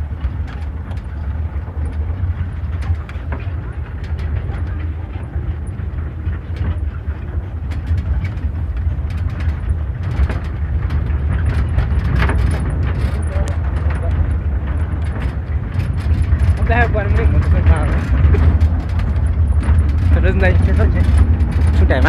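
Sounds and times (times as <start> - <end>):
engine and road rumble: 0.0 - 22.0
rattles and knocks: 0.0 - 22.0.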